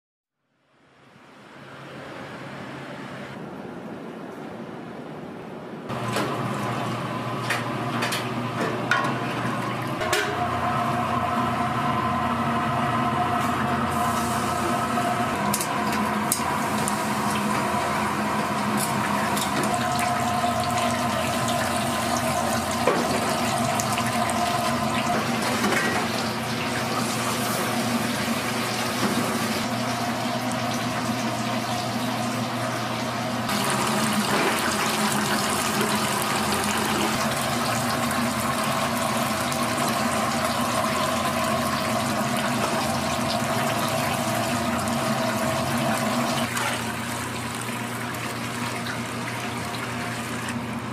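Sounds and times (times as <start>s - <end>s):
oil sizzling in deep fryer: 5.9s - 50.9s.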